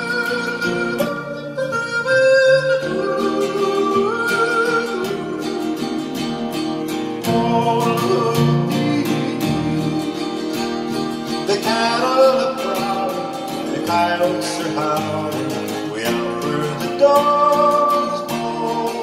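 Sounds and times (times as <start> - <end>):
acoustic guitar strumming: 0.0 - 19.0
person singing wordless line: 0.0 - 19.0.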